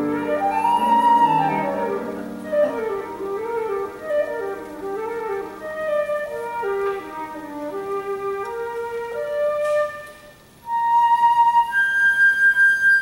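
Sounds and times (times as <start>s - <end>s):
flute playing classical melody: 0.0s - 13.0s.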